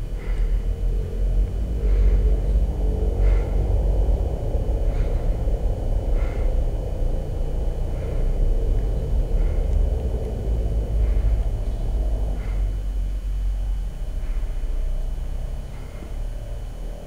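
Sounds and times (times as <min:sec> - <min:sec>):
low rumbling drone: 0:00.0 - 0:17.0.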